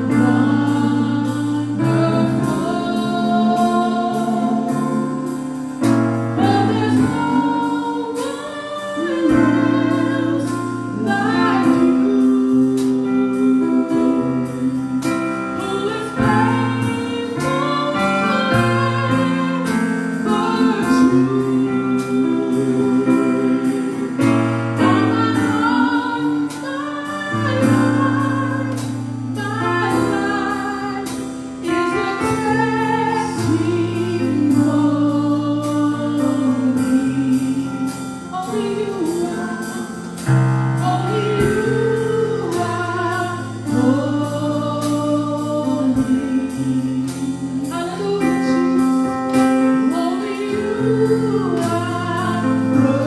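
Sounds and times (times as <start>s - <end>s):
group of singers: 0.0s - 53.0s
bass line: 9.0s - 53.0s.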